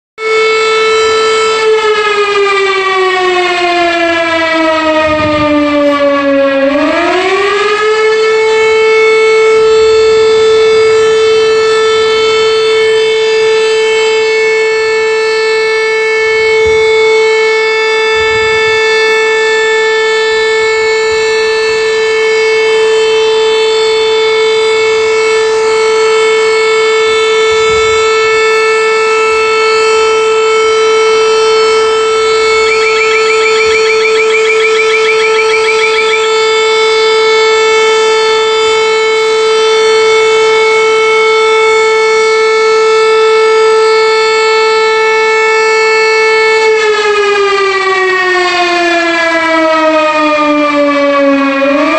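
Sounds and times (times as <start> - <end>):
fire siren wailing: 0.2 - 51.9.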